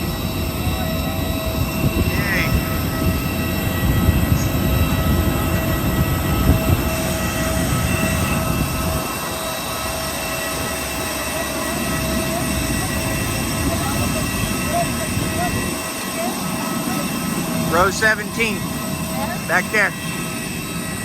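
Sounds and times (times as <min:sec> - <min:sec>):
plane engines whining: 0:00.0 - 0:21.0.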